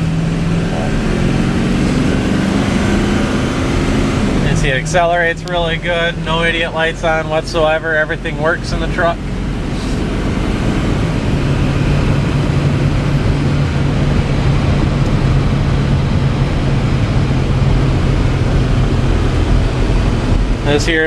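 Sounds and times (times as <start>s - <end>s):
diesel truck engine droning: 0.0s - 21.0s
road noise: 0.0s - 21.0s.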